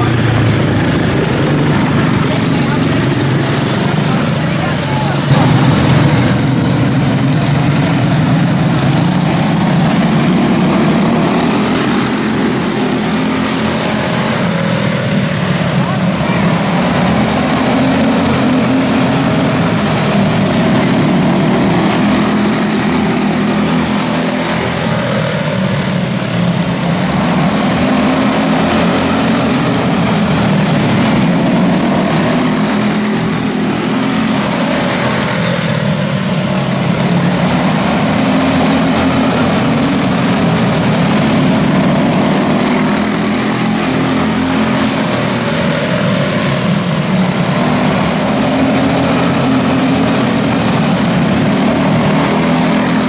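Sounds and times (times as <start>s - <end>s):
small race car engines droning: 0.0s - 53.0s.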